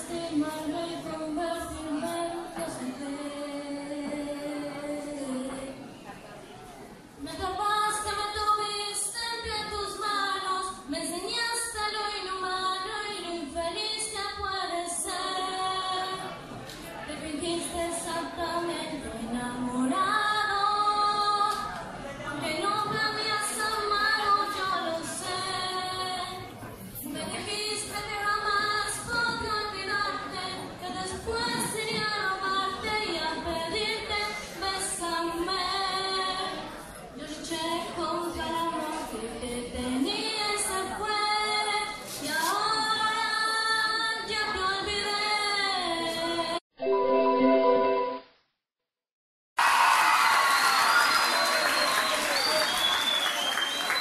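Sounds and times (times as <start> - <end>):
woman singing into a microphone: 0.0 - 5.9, 7.2 - 16.4, 17.1 - 21.8, 22.4 - 46.6.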